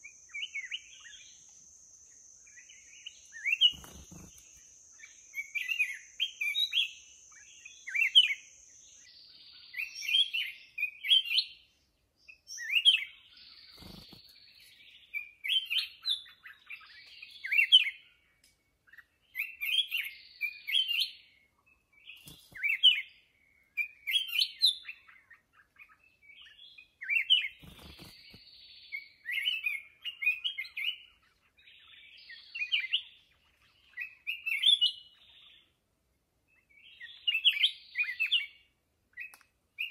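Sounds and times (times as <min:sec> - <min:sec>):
bird singing whistled notes: 0:00.0 - 0:35.8, 0:36.5 - 0:39.9.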